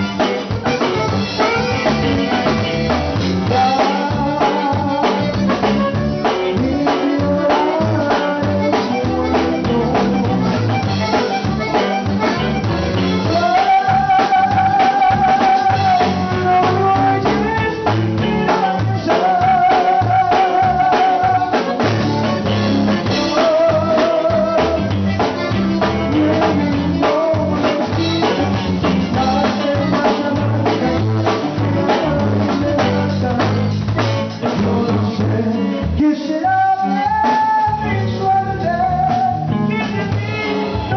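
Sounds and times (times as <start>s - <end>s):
person singing: 0.0s - 22.3s, 23.0s - 40.9s
band playing: 0.0s - 40.9s
drums keeping a beat: 0.0s - 40.9s.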